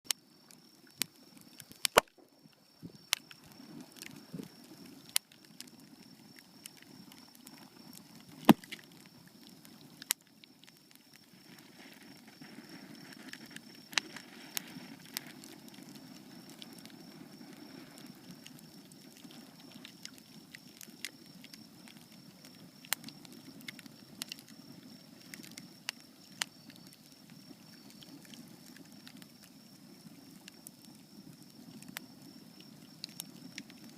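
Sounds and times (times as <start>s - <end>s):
bonfire crackling and popping: 0.1s - 33.9s.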